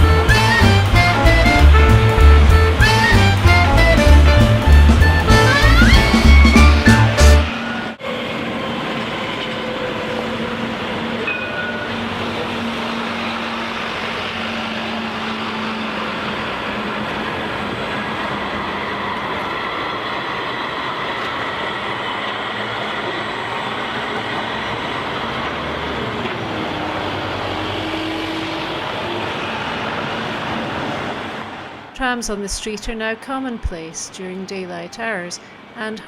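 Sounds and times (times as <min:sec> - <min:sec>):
tram running along street: 0:00.0 - 0:36.0.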